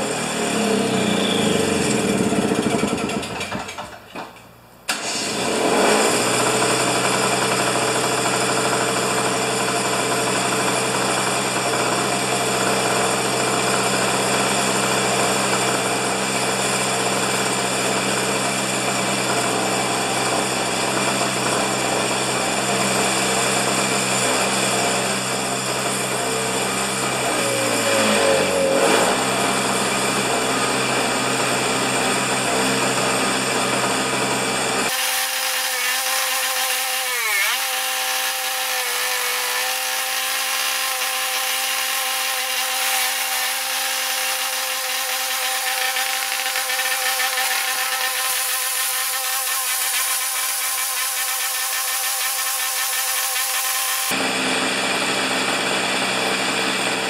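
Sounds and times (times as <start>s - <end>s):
snow thrower engine running: 0.0s - 4.2s, 4.9s - 57.0s.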